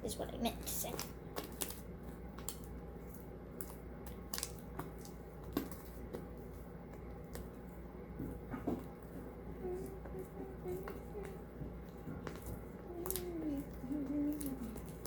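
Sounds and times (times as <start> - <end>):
faint steady hum: 0.0 - 15.0
slime squishing by hand: 0.0 - 15.0.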